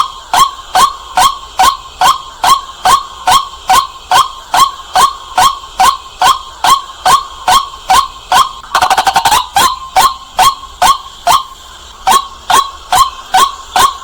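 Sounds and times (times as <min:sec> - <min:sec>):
waterhen calling: 0:00.4 - 0:14.0.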